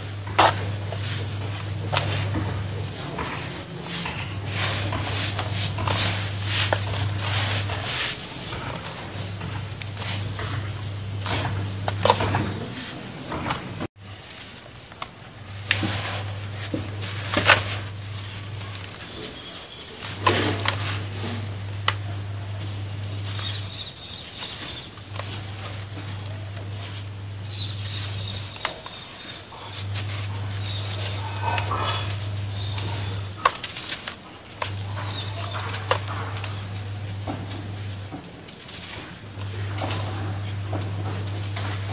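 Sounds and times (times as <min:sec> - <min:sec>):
clods crunching: 0:00.0 - 0:41.9
hands sifting gritty dry mix: 0:00.0 - 0:41.9
low steady hum: 0:00.0 - 0:41.9.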